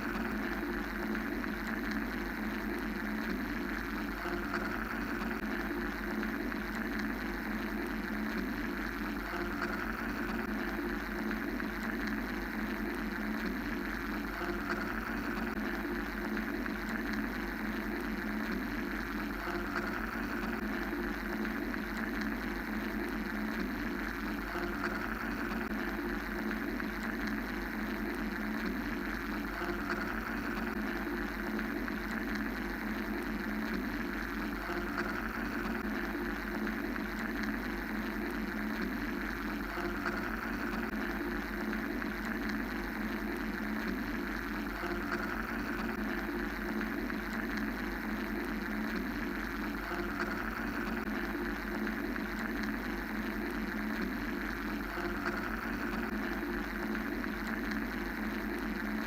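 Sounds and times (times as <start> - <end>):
mechanical white noise: 0.0 - 59.0.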